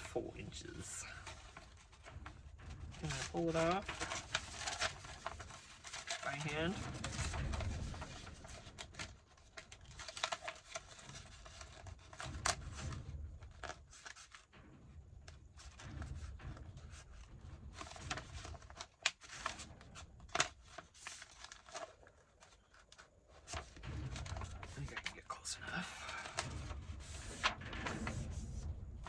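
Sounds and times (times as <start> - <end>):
paper rustling and tearing: 0.0 - 14.5, 15.6 - 28.7.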